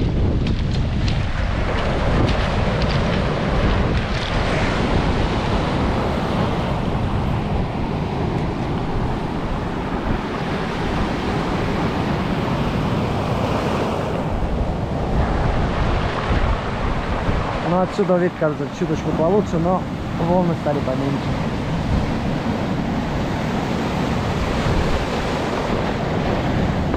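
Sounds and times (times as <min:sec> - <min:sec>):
sea surf breaking on shore: 0:00.0 - 0:26.9
wind rumbling on microphone: 0:00.0 - 0:26.9.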